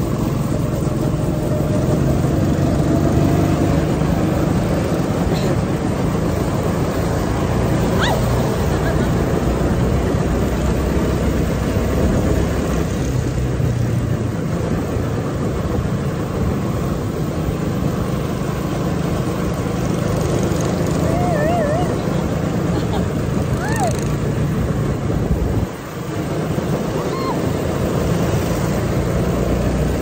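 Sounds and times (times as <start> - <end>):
go-kart engine drone: 0.0 - 30.0.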